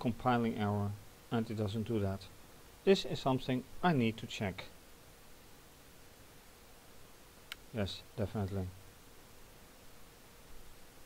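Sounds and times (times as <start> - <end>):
faint hiss: 0.0 - 11.0
faint hum: 0.0 - 11.0.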